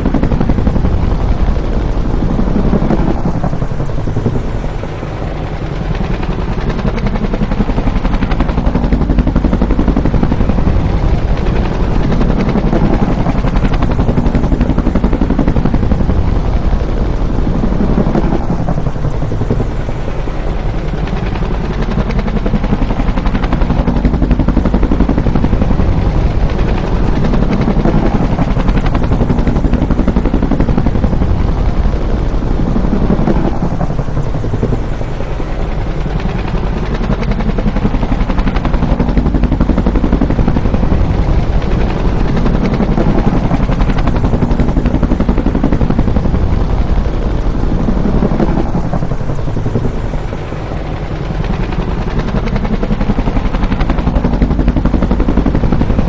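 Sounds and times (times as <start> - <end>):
helicopter rotor beating: 0.0 - 56.0.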